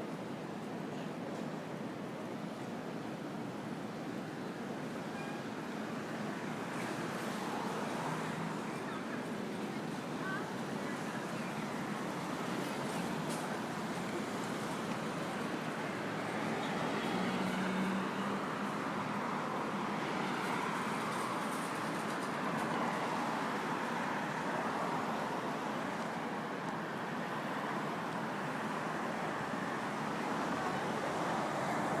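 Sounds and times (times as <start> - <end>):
passing vehicles: 5.5 - 32.0.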